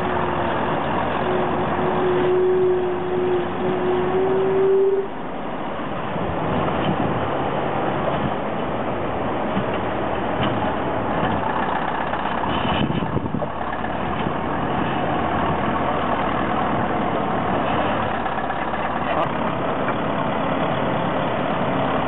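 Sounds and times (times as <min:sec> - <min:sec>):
bulldozer diesel engine under load: 0:00.0 - 0:22.0.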